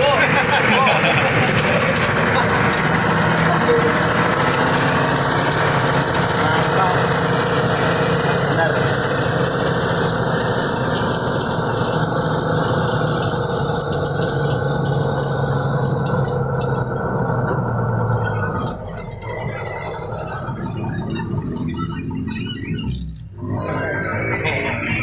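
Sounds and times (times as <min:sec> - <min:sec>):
choppy mechanical sound: 0:00.0 - 0:25.0
small engine running: 0:00.0 - 0:25.0.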